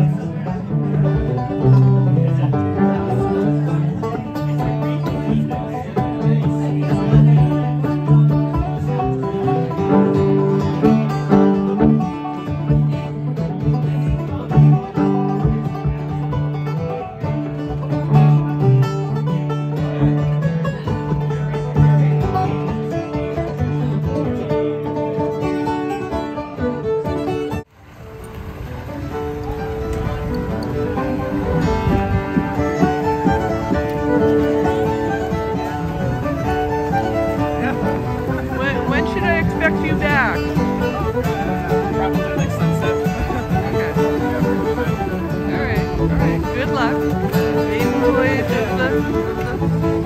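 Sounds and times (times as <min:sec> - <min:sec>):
bluegrass banjo and guitar music: 0:00.0 - 0:50.0.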